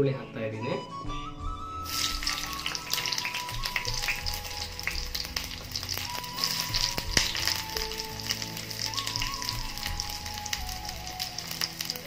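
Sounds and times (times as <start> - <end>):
background music: 0.0 - 12.0
onion sizzling in hot oil: 1.8 - 12.0.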